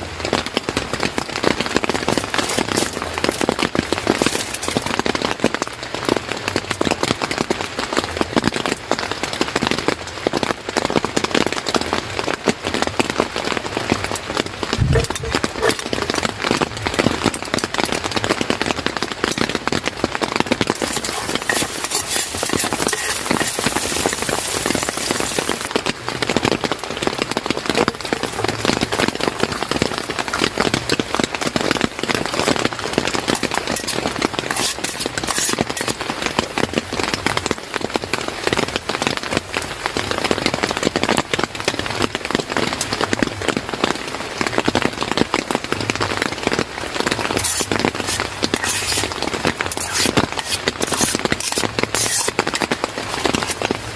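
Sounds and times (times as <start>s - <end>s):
rain patter: 0.0s - 53.9s.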